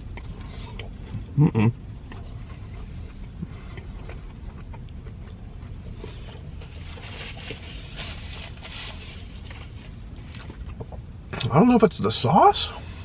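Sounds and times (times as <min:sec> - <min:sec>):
chewing with mouth clicks: 0:00.0 - 0:08.5, 0:09.3 - 0:11.6.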